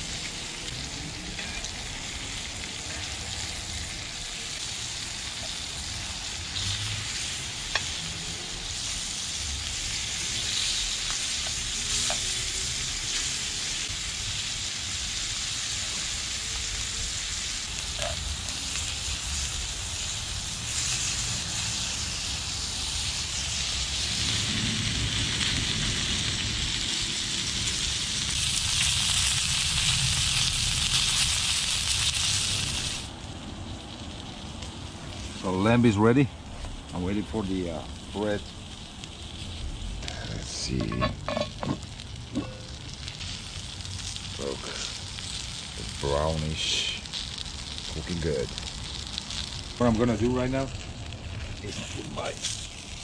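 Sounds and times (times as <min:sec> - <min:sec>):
meat sizzling in a pan: 0:00.0 - 0:53.0.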